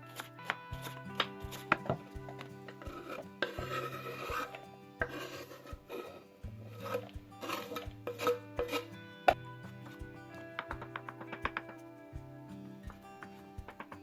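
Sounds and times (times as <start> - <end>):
background music of held notes: 0.0 - 14.0.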